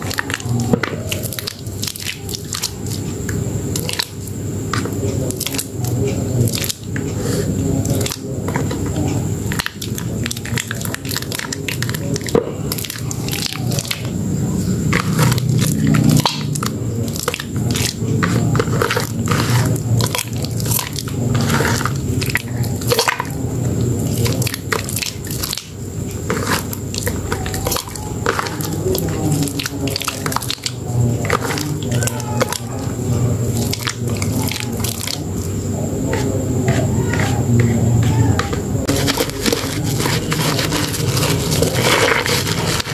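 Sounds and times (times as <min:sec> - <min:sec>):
hands squishing wet soap: 0:00.0 - 0:42.9.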